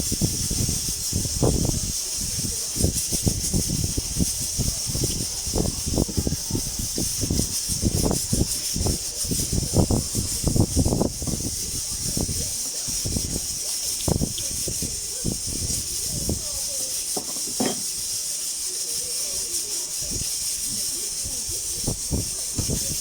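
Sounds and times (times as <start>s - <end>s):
pressure cooker steam hissing: 0.0s - 23.0s.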